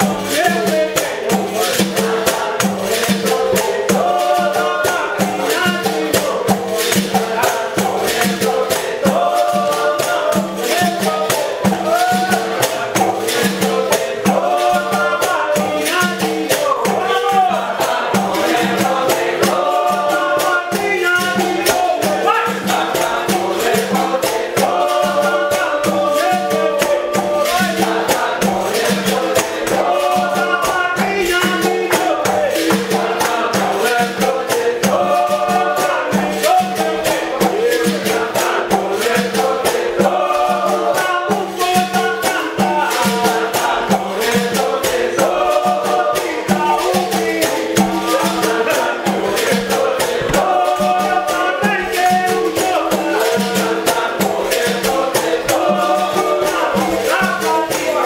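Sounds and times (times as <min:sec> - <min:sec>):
berimbau: 0:00.0 - 0:58.0
group singing: 0:00.0 - 0:58.0
shaken rattles: 0:00.0 - 0:58.0
tambourine jingles: 0:00.0 - 0:58.0.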